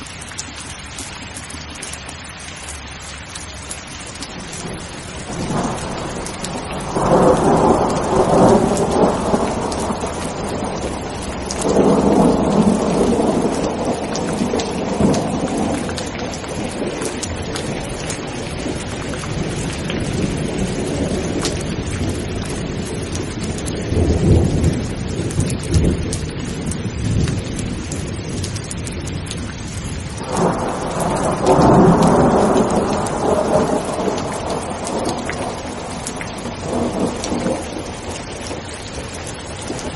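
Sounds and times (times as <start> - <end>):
steady rain falling: 0.0 - 39.9
thunder rumbling: 3.7 - 39.9.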